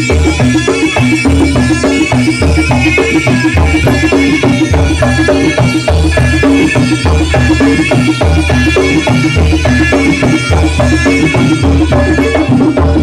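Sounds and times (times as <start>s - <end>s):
deep low beat: 0.0s - 13.0s
drums and gong-chime percussion: 0.0s - 13.0s.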